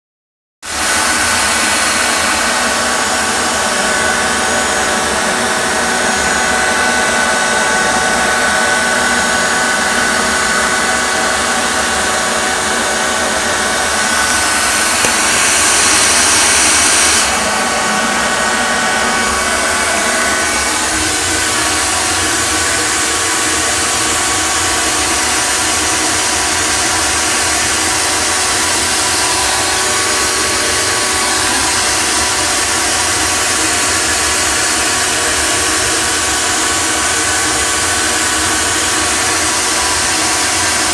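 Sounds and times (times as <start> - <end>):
shop vac running: 0.6 - 40.9.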